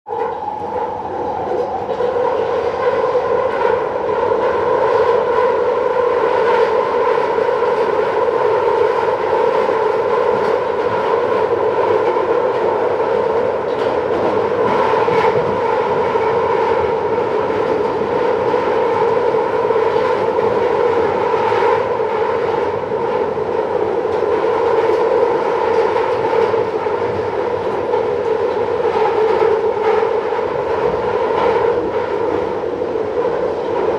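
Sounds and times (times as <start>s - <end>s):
rhythmic rail clicks: 0.1s - 33.9s
train rumble: 0.1s - 33.9s.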